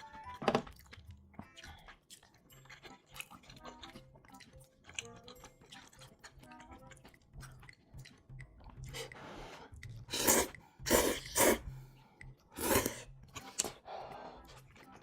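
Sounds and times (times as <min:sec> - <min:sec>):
chewing with mouth clicks: 0:00.6 - 0:15.0.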